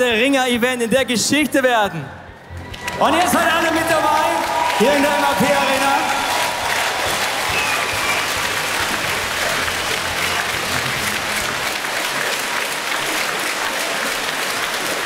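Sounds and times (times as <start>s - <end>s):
crowd applauding: 2.3s - 15.0s.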